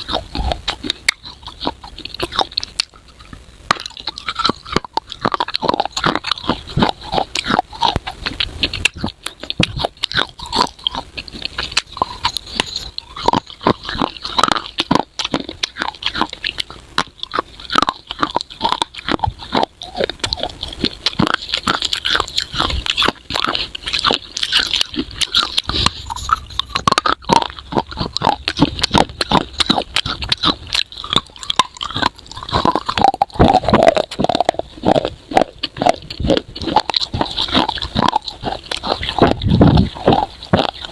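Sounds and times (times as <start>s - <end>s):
biting and chewing crunchy clay: 0.0s - 40.9s.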